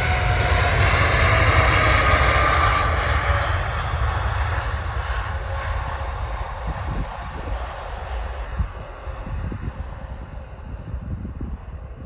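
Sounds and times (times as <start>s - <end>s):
jet engines passing at takeoff: 0.0s - 12.0s.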